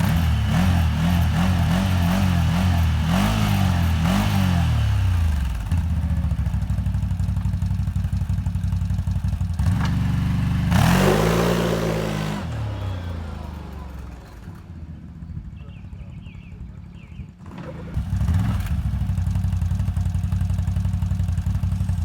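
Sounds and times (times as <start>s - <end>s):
atv engine revving and idling: 0.0s - 22.0s.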